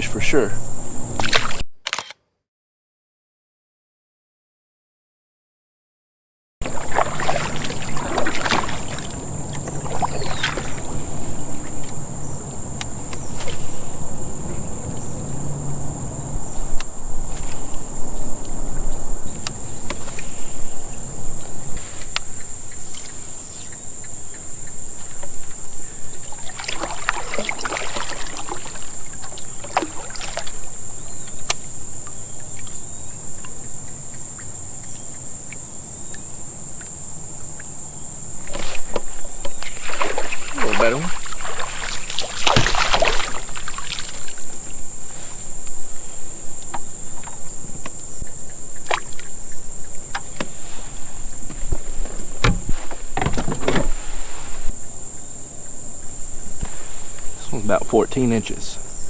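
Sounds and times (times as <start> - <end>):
high-pitched insect chorus: 0.0 - 1.6, 6.6 - 59.0
kayak splashing water: 0.0 - 1.6, 6.6 - 59.0.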